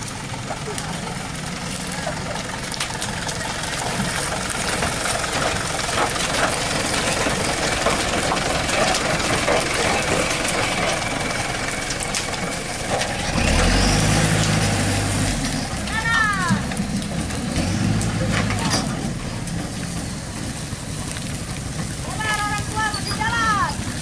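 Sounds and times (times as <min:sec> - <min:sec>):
deeper engine note: 0:00.0 - 0:22.8
truck engine running: 0:00.0 - 0:24.0.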